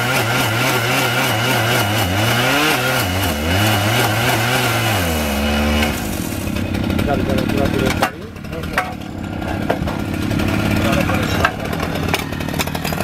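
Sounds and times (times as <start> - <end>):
high whine of saw cutting: 0.0 - 13.0
rail saw engine: 0.0 - 13.0.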